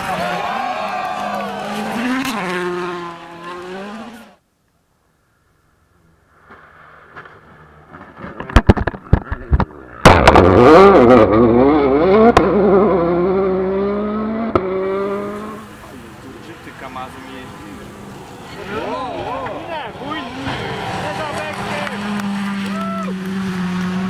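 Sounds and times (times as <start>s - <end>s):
rally engine revving close: 1.1s - 4.4s, 6.5s - 24.0s
rally car engine at high revs: 1.6s - 4.4s, 7.1s - 24.0s.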